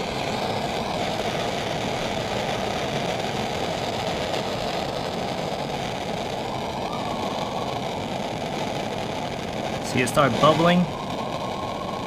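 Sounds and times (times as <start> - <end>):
torch flame rushing: 0.0 - 12.0.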